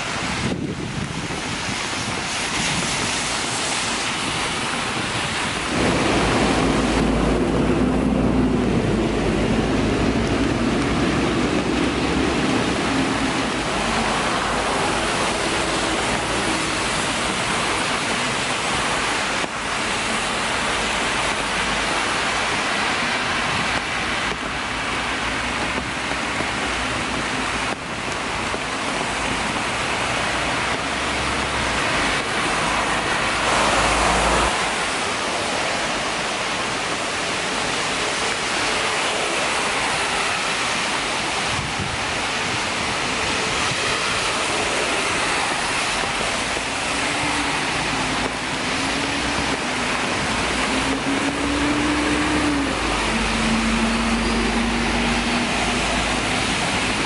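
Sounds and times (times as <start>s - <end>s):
tyres hissing on wet road: 0.0s - 57.0s
passing vehicle rumble: 1.3s - 57.0s.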